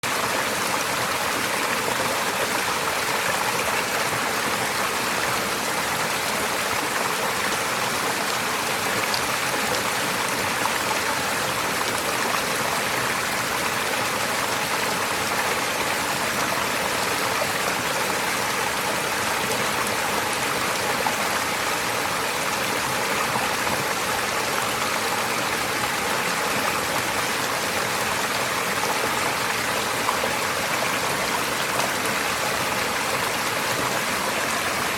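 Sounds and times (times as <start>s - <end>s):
stream water running over stones: 0.0s - 34.9s.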